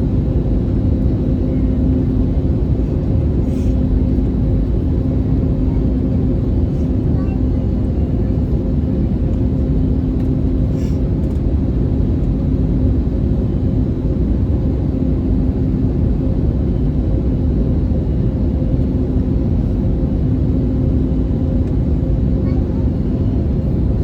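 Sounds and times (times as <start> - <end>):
aircraft engines and airflow rumble: 0.0 - 24.0
constant low hum: 0.0 - 24.0.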